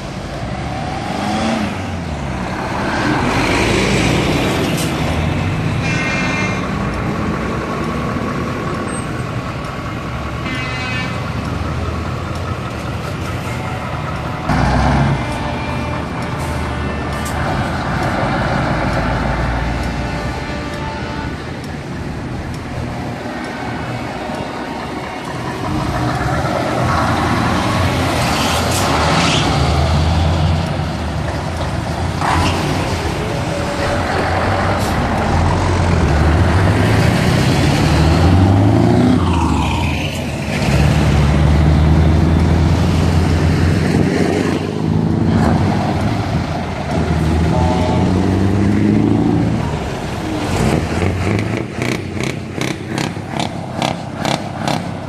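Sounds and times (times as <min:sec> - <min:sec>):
heavy trucks driving past: 0:00.0 - 0:55.0.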